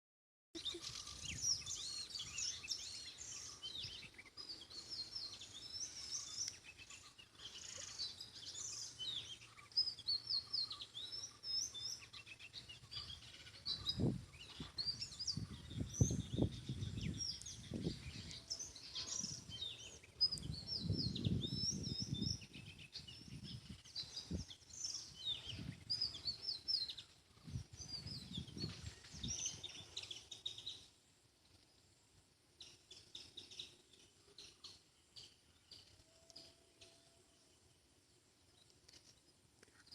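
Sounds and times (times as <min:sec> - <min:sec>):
small birds chirping: 0:00.6 - 0:39.9.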